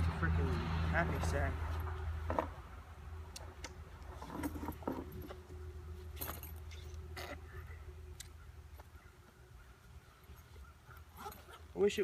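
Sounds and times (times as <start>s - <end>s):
steady low hum: 1.5s - 11.2s.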